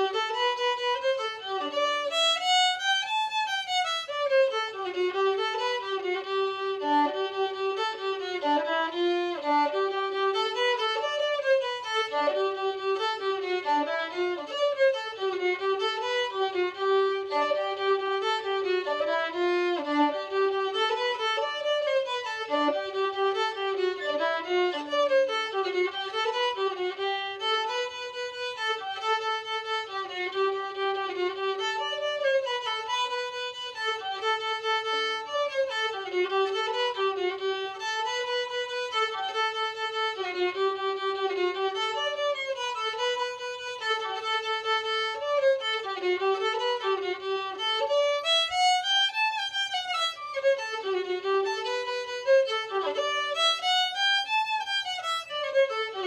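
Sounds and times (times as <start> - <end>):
solo violin jig: 0.0 - 56.0.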